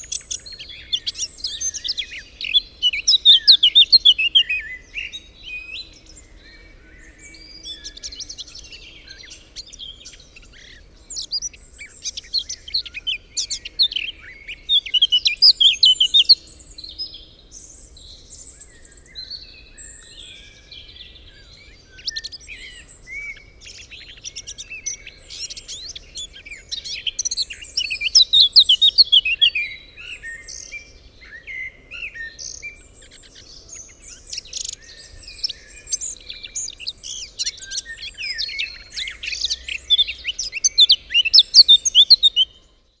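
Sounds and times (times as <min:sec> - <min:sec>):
songbirds singing and chirping: 0:00.0 - 0:43.0.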